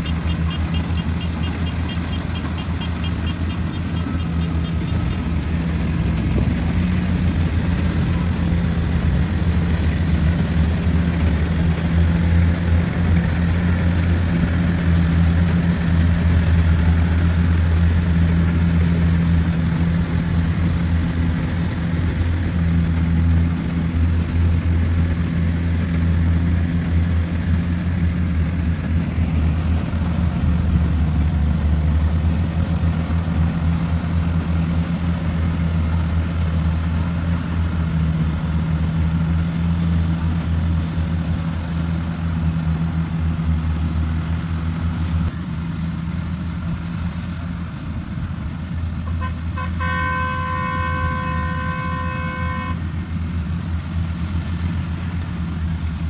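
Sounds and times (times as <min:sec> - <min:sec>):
diesel engine droning under load: 0:00.0 - 0:56.0.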